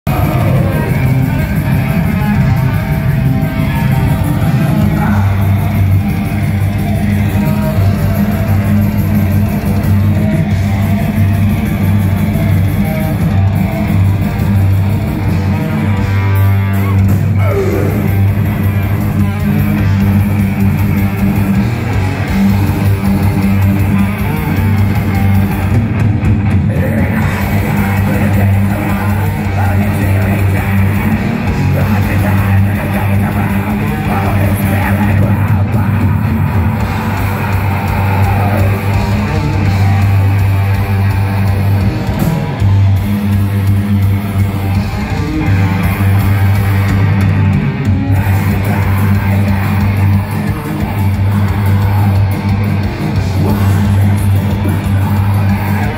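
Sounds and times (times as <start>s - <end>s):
metal band playing live: 0.0s - 55.9s.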